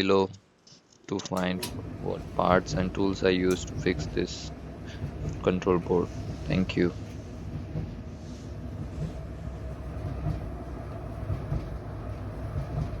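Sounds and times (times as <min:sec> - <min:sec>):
clothes dryer rumbling: 0:01.4 - 0:13.0
soft thumps in dryer drum: 0:01.6 - 0:13.0.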